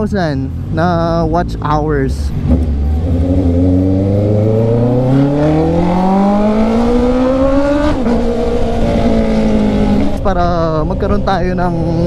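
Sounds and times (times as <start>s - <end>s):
motorcycle engine revving: 0.8s - 12.0s.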